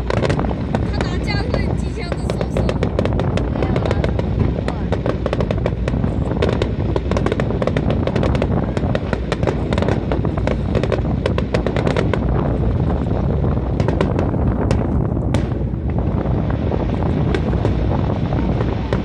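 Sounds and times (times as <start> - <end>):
fireworks crackling and popping: 0.0 - 19.0
low rumble: 0.0 - 19.0.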